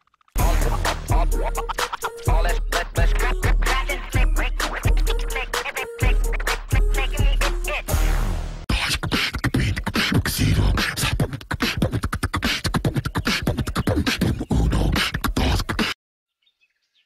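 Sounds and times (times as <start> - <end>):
person beatboxing: 0.4 - 8.0, 8.7 - 16.0.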